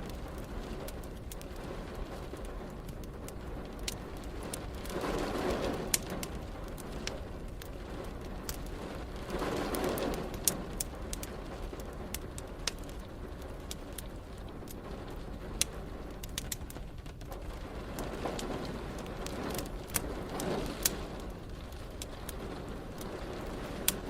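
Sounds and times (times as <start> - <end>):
rain hissing: 0.0 - 24.0
wood fire crackling: 0.0 - 24.0.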